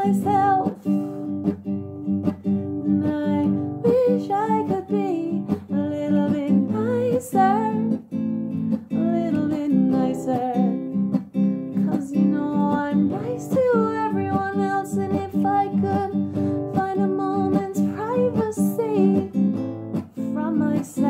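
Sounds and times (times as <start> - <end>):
woman singing: 0.0 - 1.2, 2.7 - 11.1, 11.7 - 21.0
strummed acoustic guitar: 0.0 - 21.0.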